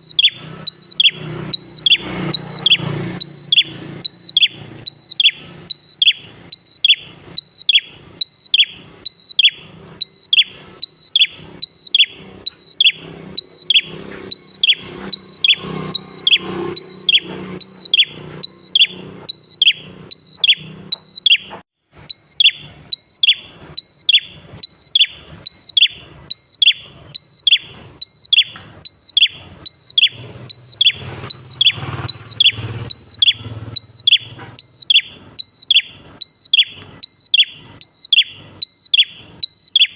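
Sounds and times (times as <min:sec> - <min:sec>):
bird calling sharp high notes: 0:00.0 - 0:39.9.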